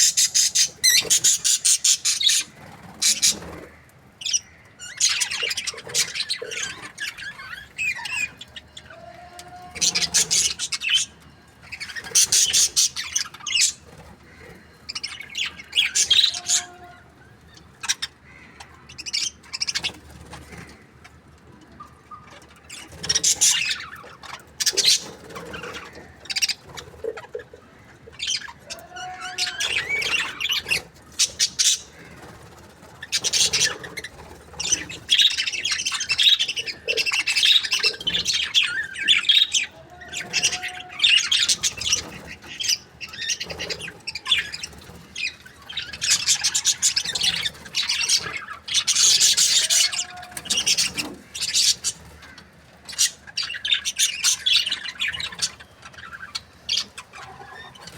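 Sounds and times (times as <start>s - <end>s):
budgerigars chirping: 0.0s - 8.8s, 9.8s - 16.7s, 17.7s - 20.8s, 22.1s - 28.7s, 29.3s - 57.9s
bird squawks: 0.0s - 21.2s, 22.3s - 57.9s.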